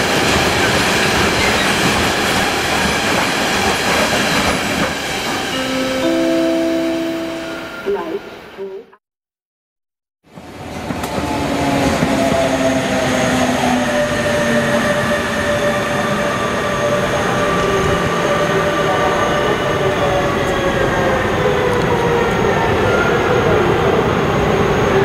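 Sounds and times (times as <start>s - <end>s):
train rumbling: 0.0s - 8.7s, 10.3s - 25.0s.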